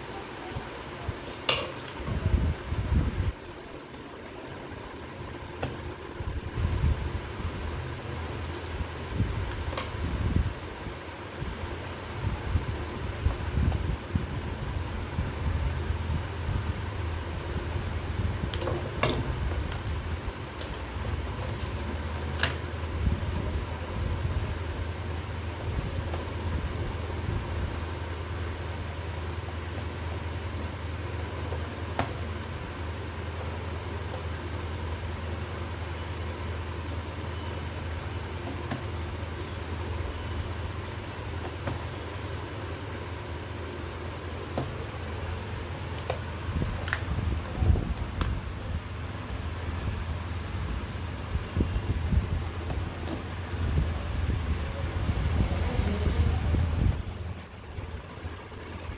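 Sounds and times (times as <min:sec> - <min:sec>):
low background hum: 0:00.0 - 0:58.9.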